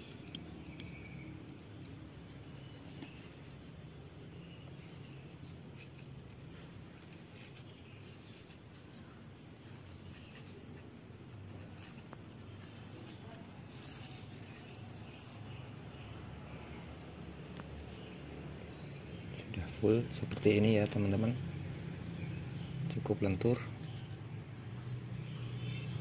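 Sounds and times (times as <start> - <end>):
low steady background hum: 0.0 - 26.0.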